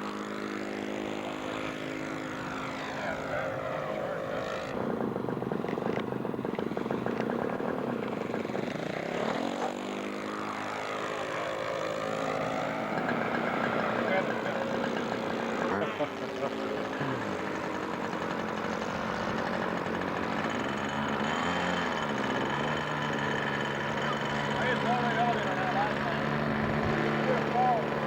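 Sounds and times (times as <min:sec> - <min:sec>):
model airplane engine: 0:00.0 - 0:28.0.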